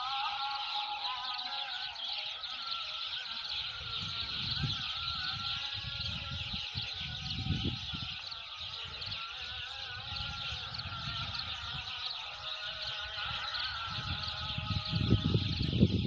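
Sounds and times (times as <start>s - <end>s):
flock of sparrows chirping: 0.0s - 16.0s.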